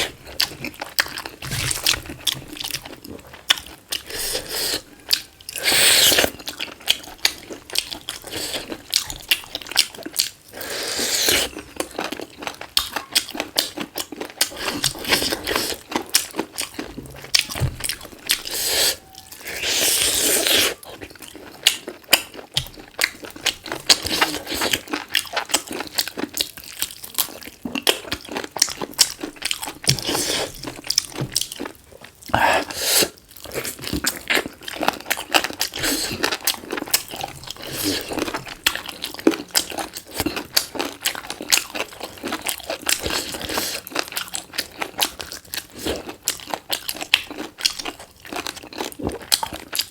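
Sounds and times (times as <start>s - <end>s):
crunchy chewing: 0.0s - 49.9s.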